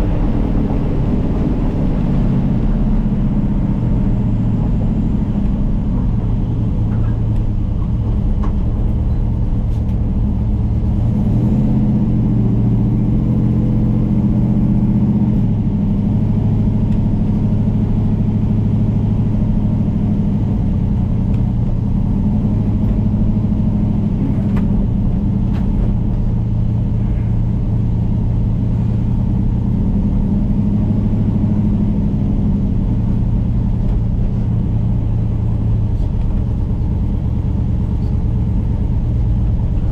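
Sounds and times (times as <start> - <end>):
truck engine running at low revs: 0.0 - 39.9.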